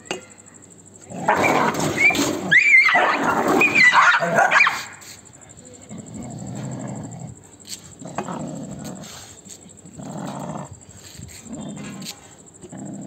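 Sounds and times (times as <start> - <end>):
dogs growling: 1.0 - 4.5, 5.8 - 13.0.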